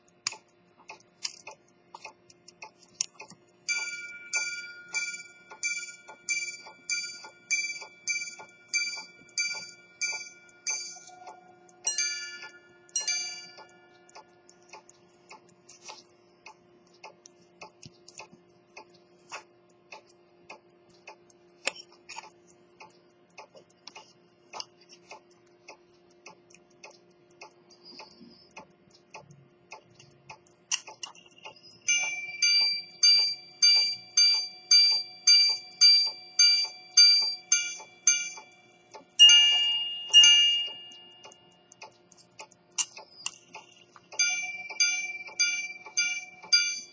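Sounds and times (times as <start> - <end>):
pocket watch ticking: 0.0 - 46.9.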